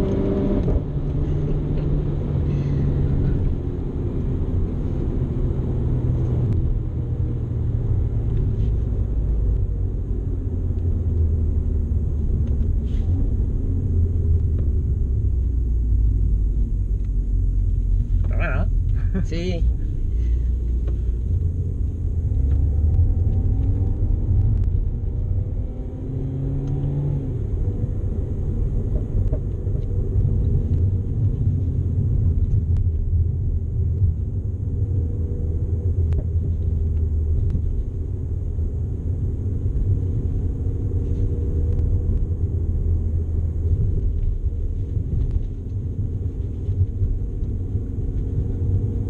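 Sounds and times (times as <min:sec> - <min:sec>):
car engine droning under load: 0:00.0 - 0:49.0.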